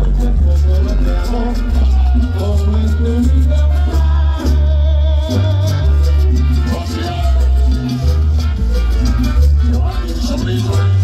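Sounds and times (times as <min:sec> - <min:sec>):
loud salsa music: 0:00.0 - 0:11.0.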